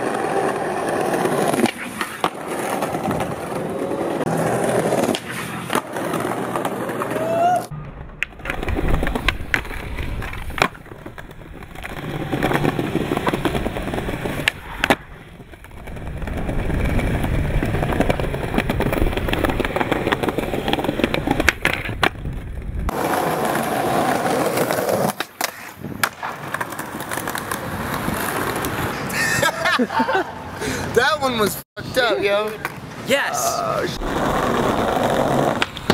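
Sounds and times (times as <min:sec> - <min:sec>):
skateboard popping and landing: 0:00.0 - 0:29.0, 0:33.9 - 0:35.9
skateboard wheels rolling on pavement: 0:00.0 - 0:35.9.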